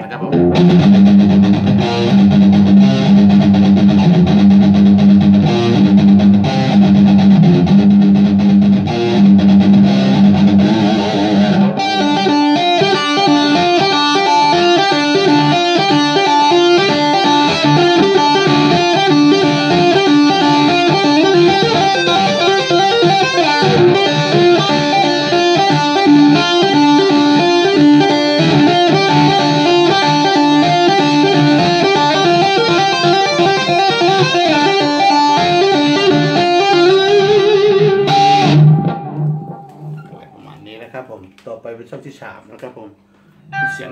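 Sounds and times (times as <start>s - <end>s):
distorted electric guitar lead: 0.0s - 40.8s, 43.5s - 43.9s.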